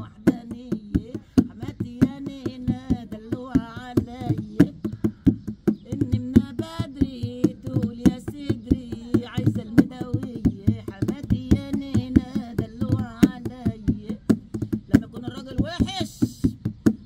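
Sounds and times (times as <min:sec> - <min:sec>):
woman singing: 0:00.0 - 0:16.6
hand drum beating: 0:00.0 - 0:17.0.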